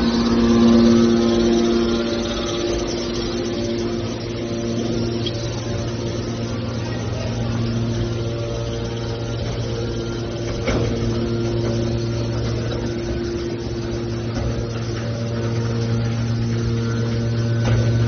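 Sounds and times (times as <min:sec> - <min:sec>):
baling press motor humming: 0:00.0 - 0:18.0.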